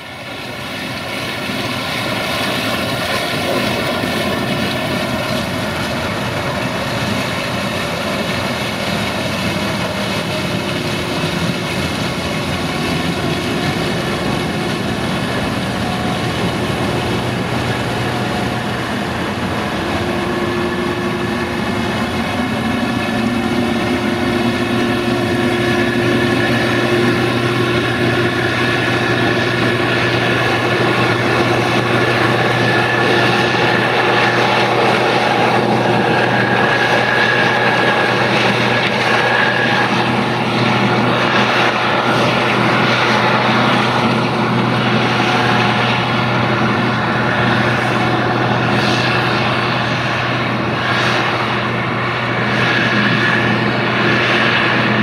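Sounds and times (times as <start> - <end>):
combine harvester engine drone: 0.0 - 55.0
machine whine: 0.0 - 55.0.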